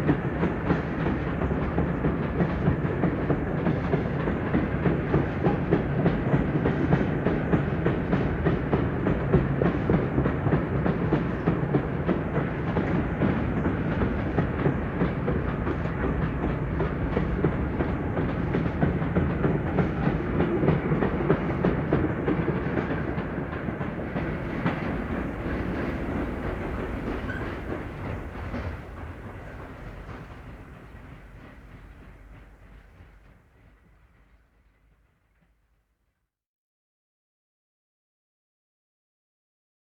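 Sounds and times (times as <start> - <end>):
steam train on track: 0.0 - 36.1.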